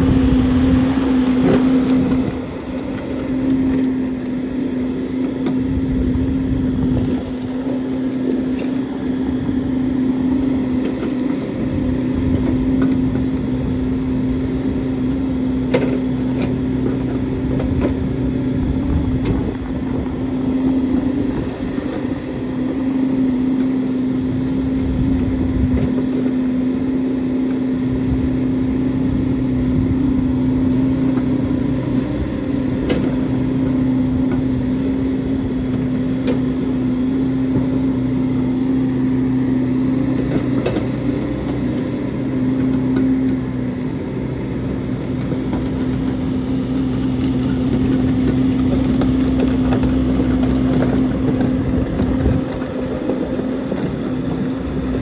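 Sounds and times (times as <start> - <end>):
backhoe engine humming: 0.0 - 55.0.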